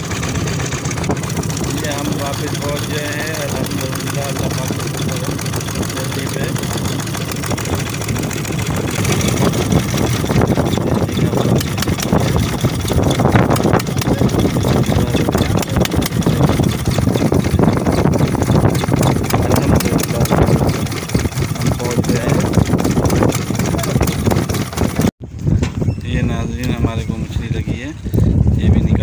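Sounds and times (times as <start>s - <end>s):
boat engine running: 0.0s - 25.2s.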